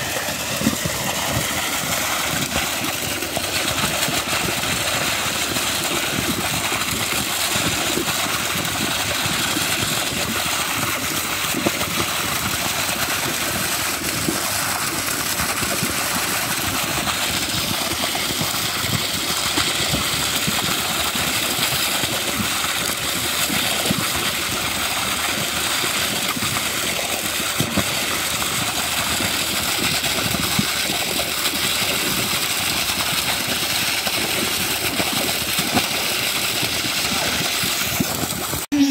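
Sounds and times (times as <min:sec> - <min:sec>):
concrete pump running: 0:00.0 - 0:38.9.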